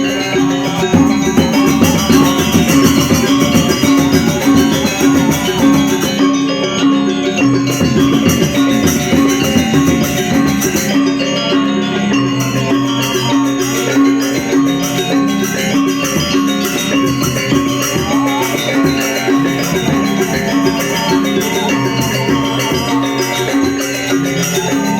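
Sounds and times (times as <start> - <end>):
drums: 0.0 - 6.3, 7.4 - 11.3, 12.5 - 24.9
metal-keyed percussion ringing: 0.0 - 24.9.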